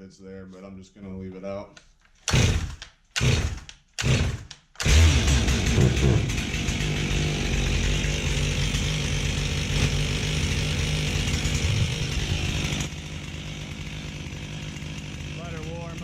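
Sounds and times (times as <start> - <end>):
chainsaw engine starting and running: 2.2 - 16.0.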